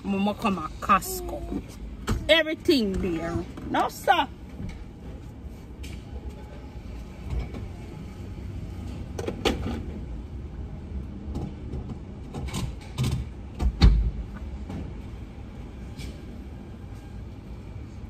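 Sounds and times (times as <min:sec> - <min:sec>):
low steady hum in car: 0:00.0 - 0:18.0.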